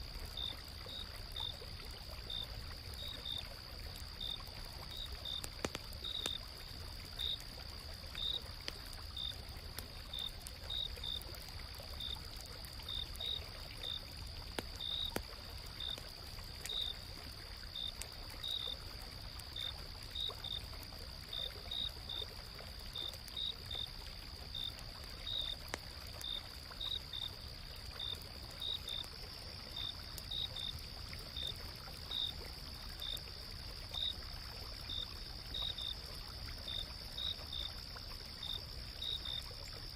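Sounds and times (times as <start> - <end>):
faint crackles: 0.0 - 39.9
flowing stream: 0.0 - 39.9
insects chirping: 0.1 - 39.9
insects trilling: 0.4 - 20.7, 22.9 - 39.9.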